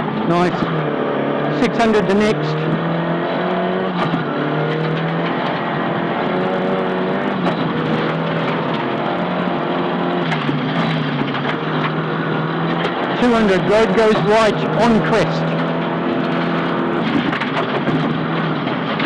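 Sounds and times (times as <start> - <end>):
rally car engine running hard: 0.0 - 19.0.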